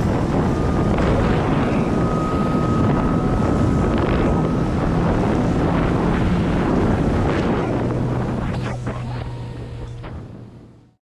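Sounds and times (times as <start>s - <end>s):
wind buffeting microphone: 0.0s - 10.9s
faint steady whine: 0.0s - 11.0s
jet ski engine running: 0.0s - 11.0s.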